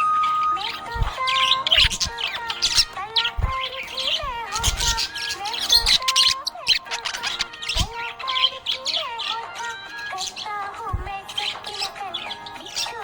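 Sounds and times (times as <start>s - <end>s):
background music: 0.0s - 13.0s
budgerigar chirping and warbling: 0.0s - 13.0s.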